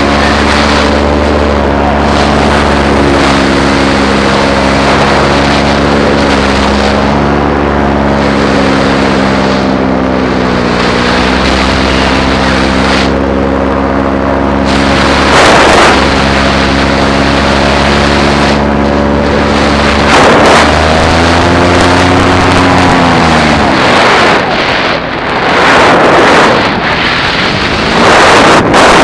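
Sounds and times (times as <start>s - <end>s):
paramotor engine and propeller: 0.0s - 29.0s
wind buffeting microphone: 0.0s - 29.0s.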